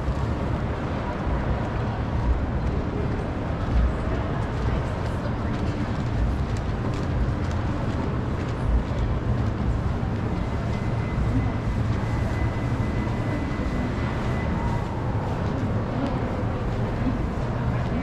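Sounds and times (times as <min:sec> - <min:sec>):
distant murmur of shoppers: 0:00.0 - 0:18.0.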